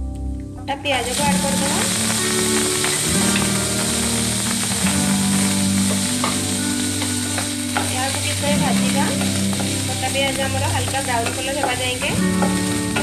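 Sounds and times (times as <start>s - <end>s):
background music: 0.0s - 13.0s
onions sizzling in oil: 1.0s - 13.0s.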